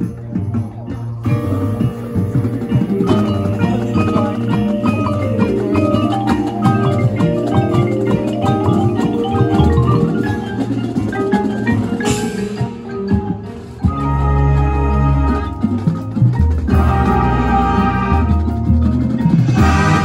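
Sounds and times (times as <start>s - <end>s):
marimbas playing quick runs: 0.0s - 20.0s.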